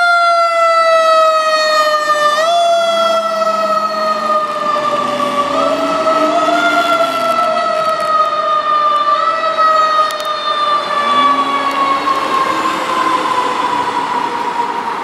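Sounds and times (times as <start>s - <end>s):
mechanical siren wailing: 0.0s - 15.0s.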